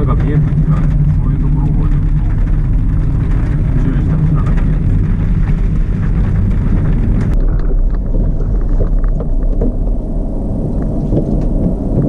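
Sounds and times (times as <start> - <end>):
knocks and rattles: 0.0 - 10.0
truck engine and road rumble: 0.0 - 12.0.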